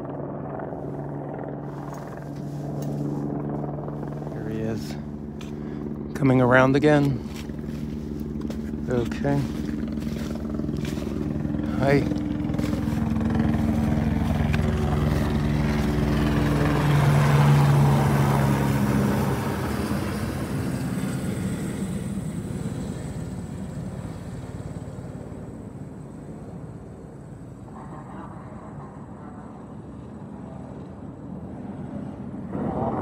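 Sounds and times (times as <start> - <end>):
helicopter flying past: 0.0 - 33.0.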